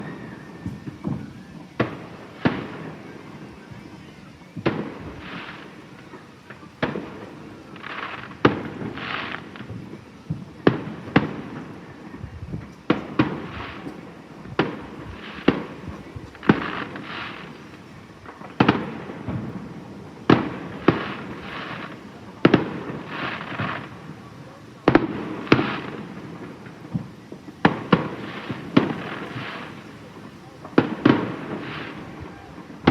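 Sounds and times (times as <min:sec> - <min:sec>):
fireworks exploding: 0:00.0 - 0:32.9.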